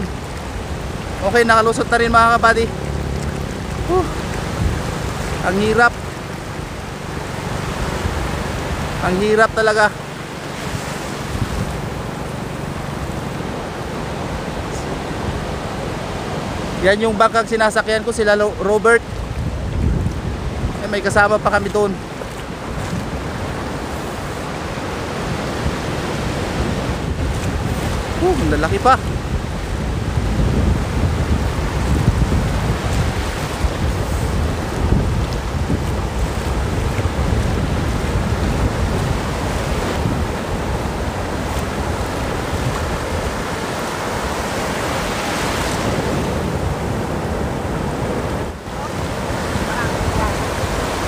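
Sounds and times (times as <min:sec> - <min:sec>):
surf waves breaking: 0:00.0 - 0:51.0
wind buffeting microphone: 0:00.0 - 0:51.0.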